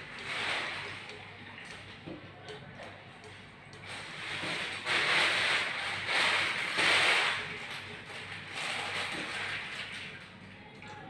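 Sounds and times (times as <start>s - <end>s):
water pouring into plastic jar: 0.0s - 10.9s.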